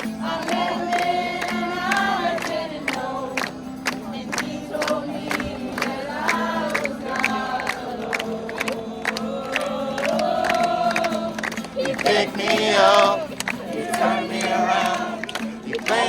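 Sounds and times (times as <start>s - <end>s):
group singing a worship song: 0.0s - 16.0s.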